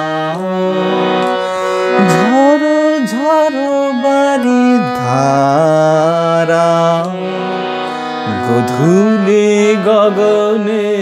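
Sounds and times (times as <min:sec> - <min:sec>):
harmonium held notes: 0:00.0 - 0:11.0
man singing wordless melody: 0:00.0 - 0:11.0.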